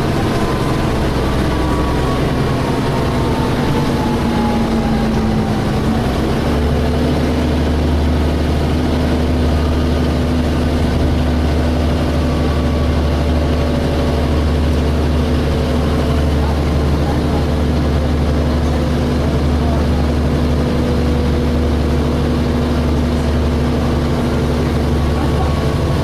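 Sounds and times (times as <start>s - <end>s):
bus engine whining drone: 0.0s - 26.0s.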